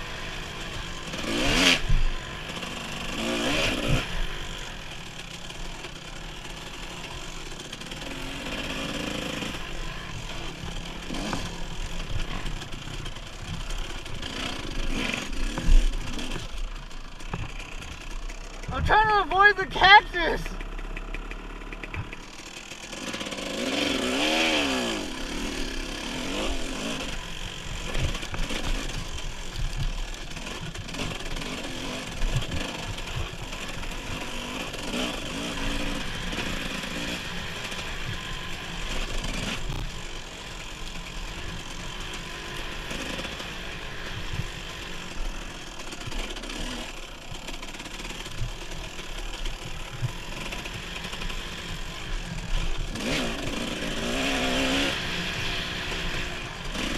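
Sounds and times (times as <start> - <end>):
dirt bike engine: 0.0 - 56.9.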